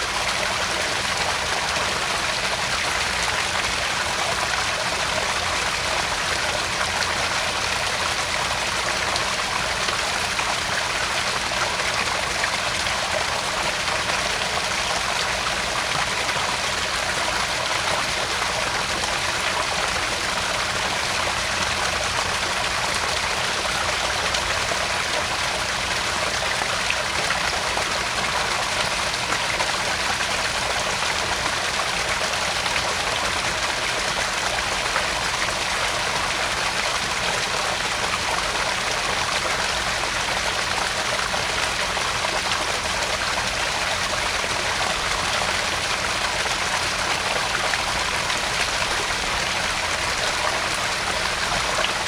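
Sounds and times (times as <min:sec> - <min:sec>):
water splashing into pond: 0:00.0 - 0:52.0.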